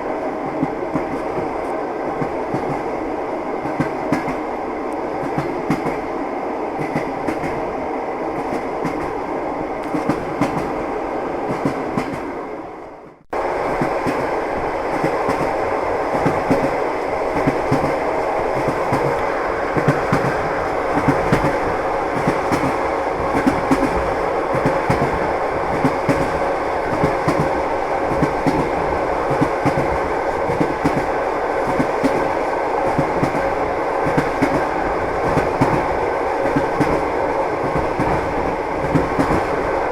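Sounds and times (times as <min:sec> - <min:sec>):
rumble of moving train: 0:00.0 - 0:39.9
train wheels clickety-clack: 0:00.4 - 0:02.9, 0:03.6 - 0:06.2, 0:06.8 - 0:07.7, 0:08.3 - 0:09.2, 0:09.8 - 0:10.8, 0:11.5 - 0:12.3, 0:13.7 - 0:39.9.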